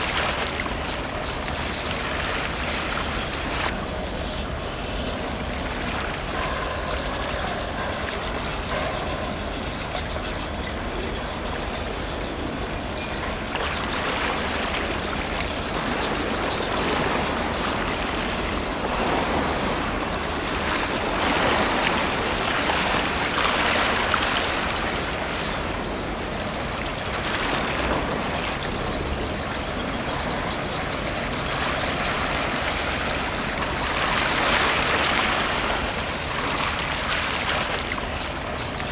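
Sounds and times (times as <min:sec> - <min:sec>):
ship engine rumbling: 0:00.0 - 0:38.9
wake water rushing: 0:00.0 - 0:38.9.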